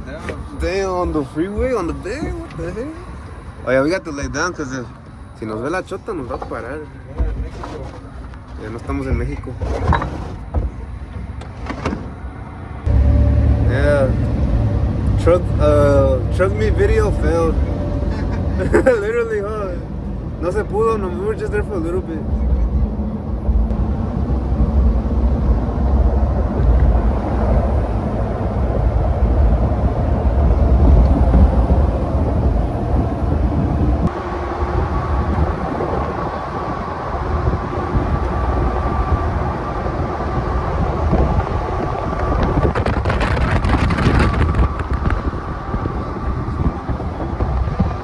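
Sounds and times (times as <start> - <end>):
road rumble: 0.0 - 48.0
steady whine: 0.0 - 48.0
wind noise: 0.0 - 48.0.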